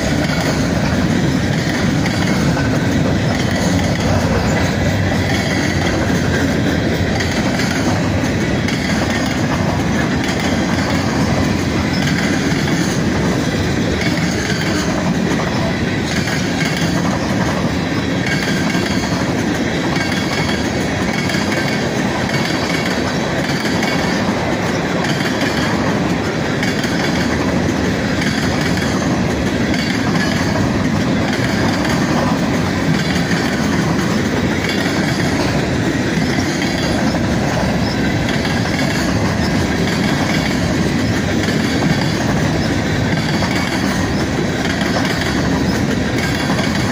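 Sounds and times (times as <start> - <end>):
freight train rumbling past: 0.0 - 46.9
train wheels clattering: 0.0 - 46.9.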